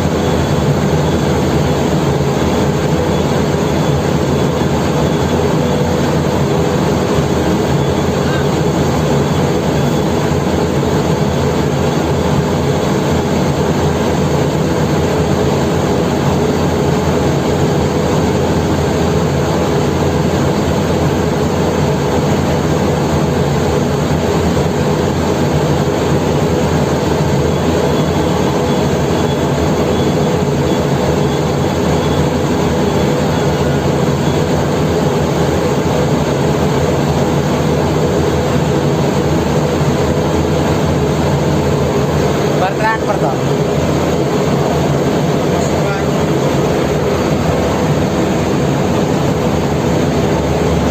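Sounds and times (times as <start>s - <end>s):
large diesel engine running: 0.0s - 50.9s.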